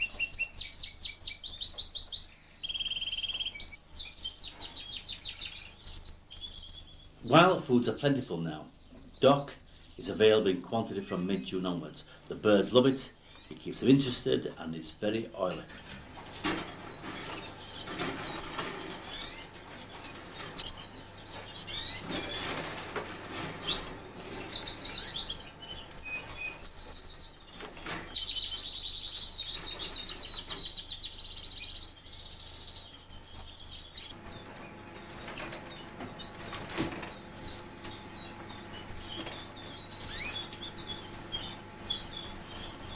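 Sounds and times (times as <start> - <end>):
canaries chirping: 0.0 - 42.9
canary singing trills: 0.0 - 42.9.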